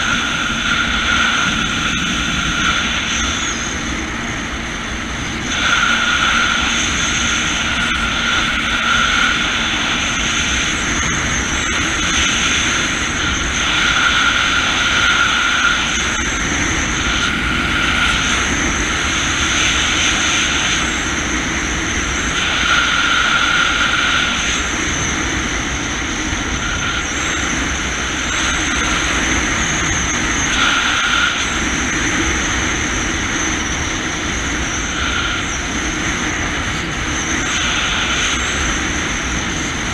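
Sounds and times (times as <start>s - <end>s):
high whine: 0.0s - 39.9s
jet ski engine running: 0.0s - 39.9s
water noise: 0.0s - 39.9s
wind noise: 0.0s - 39.9s.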